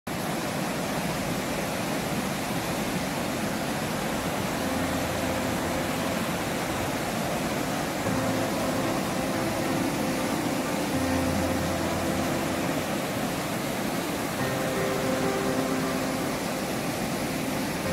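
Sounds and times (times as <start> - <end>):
river rapids rushing: 0.1 - 17.9.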